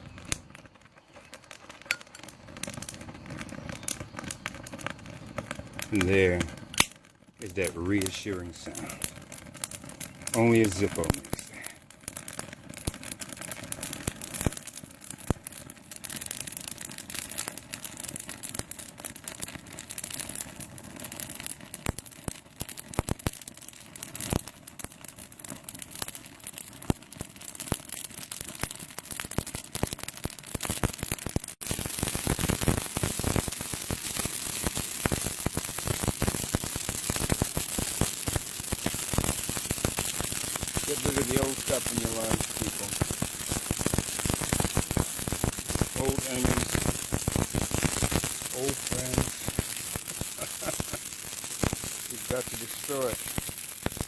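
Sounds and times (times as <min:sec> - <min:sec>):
fire crackling and popping: 0:00.0 - 0:54.0
flame hissing: 0:00.2 - 0:54.0.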